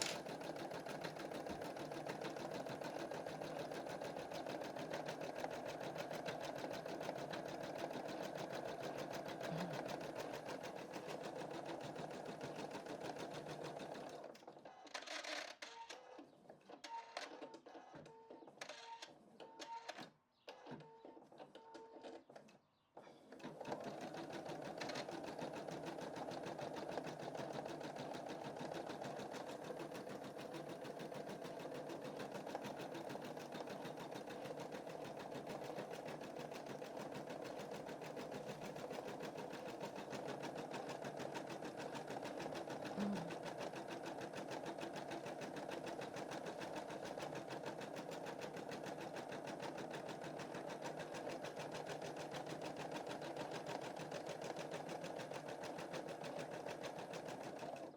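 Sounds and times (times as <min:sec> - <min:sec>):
embroidery machine stitching: 0:00.0 - 0:14.3, 0:23.3 - 0:57.9.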